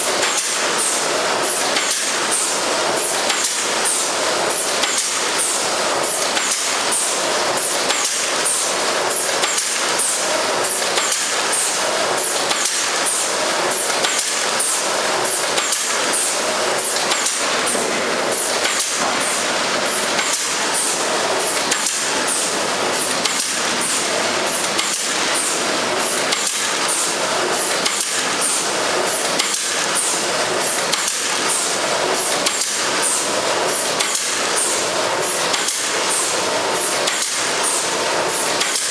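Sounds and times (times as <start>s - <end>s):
packing machine whirring: 0.0s - 38.9s
rhythmic mechanical clacking: 0.0s - 38.9s.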